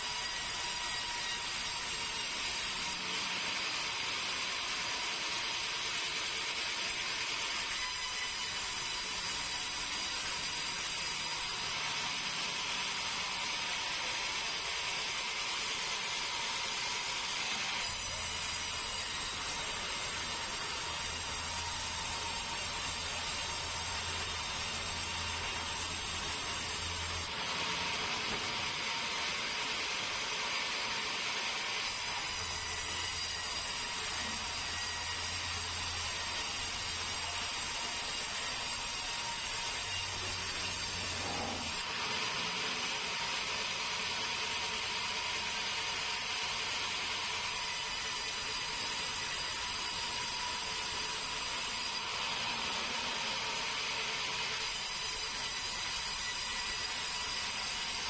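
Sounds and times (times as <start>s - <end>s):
sawmill saw cutting log: 0.0s - 58.0s.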